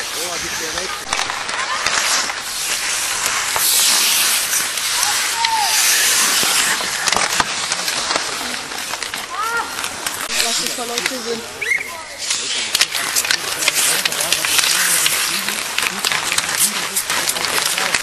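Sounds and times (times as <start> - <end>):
hockey sticks and puck clacking: 0.0 - 18.0
skates scraping ice: 0.0 - 18.0.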